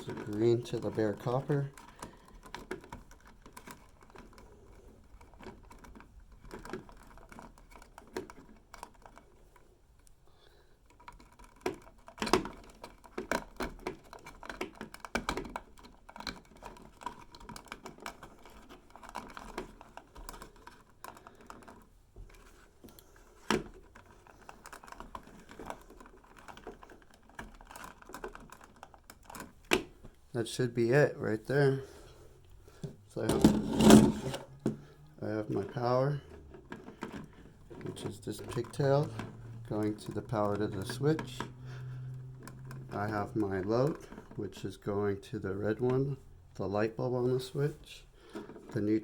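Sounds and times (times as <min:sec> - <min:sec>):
wires clicking and rattling: 0:00.0 - 0:10.1, 0:10.8 - 0:49.0.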